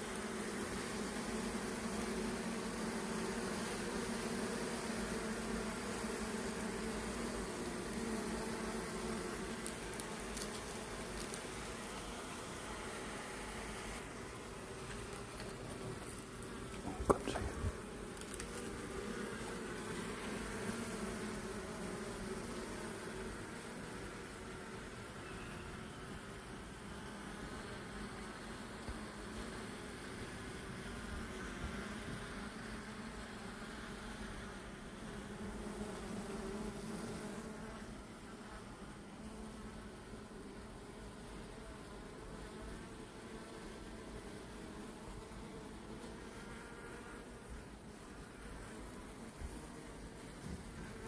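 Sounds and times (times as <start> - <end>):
faint buzzing hum: 0.0 - 51.0.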